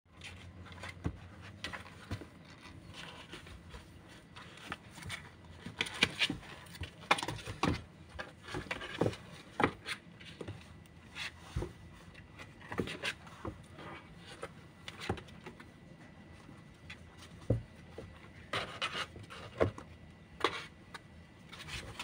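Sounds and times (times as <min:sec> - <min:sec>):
kittens' claws scratching cardboard: 0:00.1 - 0:22.0.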